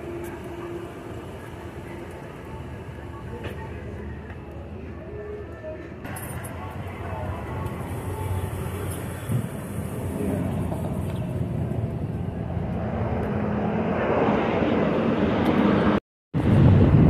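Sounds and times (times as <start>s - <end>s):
jet airplane rumbling overhead: 0.0s - 17.0s
street traffic: 0.0s - 17.0s.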